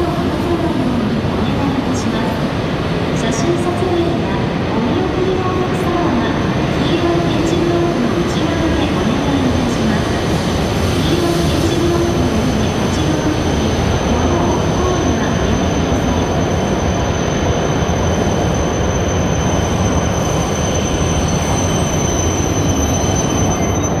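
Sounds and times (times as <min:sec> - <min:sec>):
train rumble of wheels: 0:00.0 - 0:24.0.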